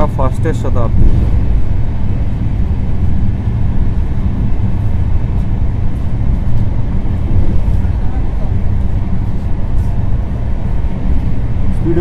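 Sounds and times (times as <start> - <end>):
train coach rumble: 0.0 - 12.0.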